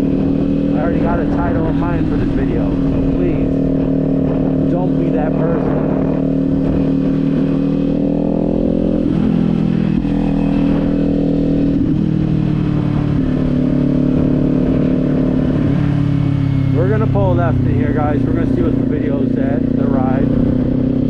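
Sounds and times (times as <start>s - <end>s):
motorcycle engine cruising: 0.0s - 21.0s
wind rumble on microphone: 0.0s - 21.0s.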